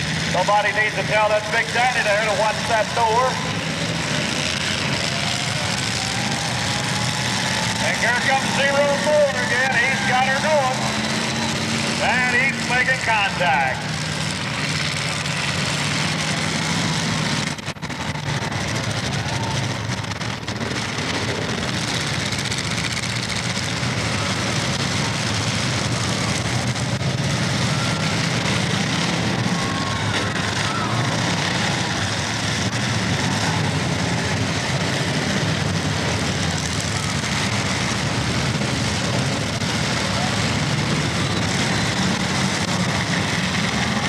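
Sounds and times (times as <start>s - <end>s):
car engines running together: 0.0s - 44.0s.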